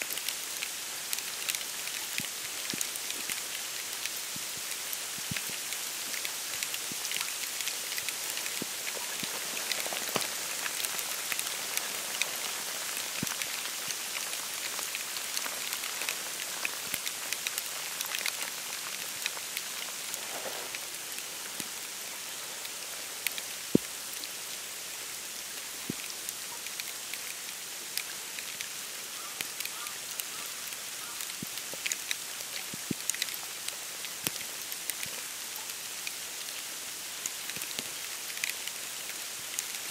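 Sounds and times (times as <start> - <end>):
wet snow pattering: 0.0 - 39.9.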